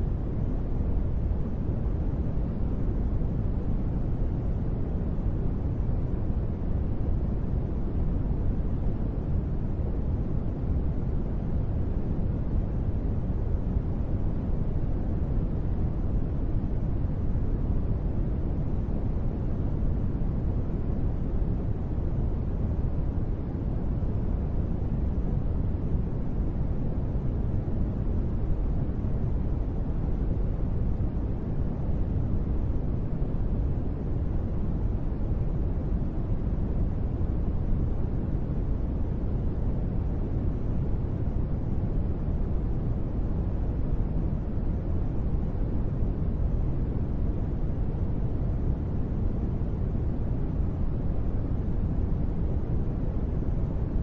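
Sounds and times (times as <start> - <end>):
muffled steady rain noise: 0.0 - 54.0.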